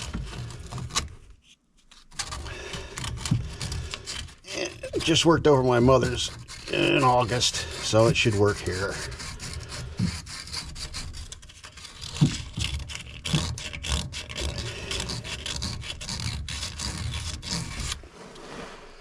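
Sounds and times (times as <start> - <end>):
hand scraping on plastic pipe: 0.0 - 19.0.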